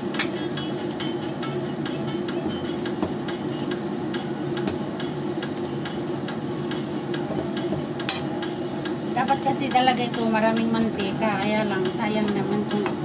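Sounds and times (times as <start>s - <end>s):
spring rolls sizzling in oil: 0.0s - 13.0s.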